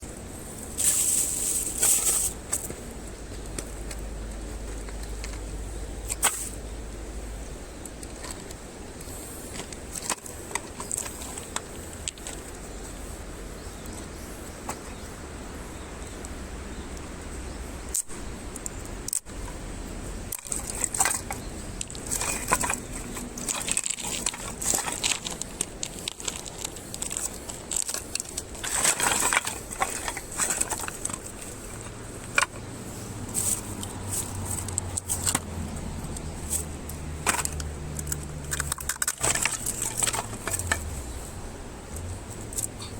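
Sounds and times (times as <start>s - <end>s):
kindling and twigs crackling: 0.0s - 42.9s.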